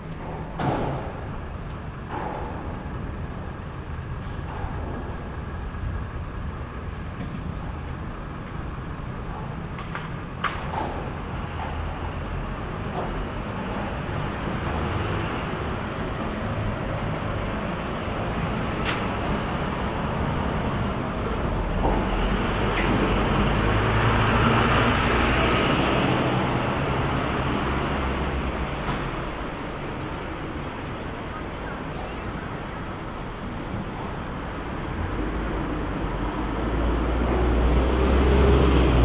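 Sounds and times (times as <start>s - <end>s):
road traffic hum: 0.0s - 39.0s.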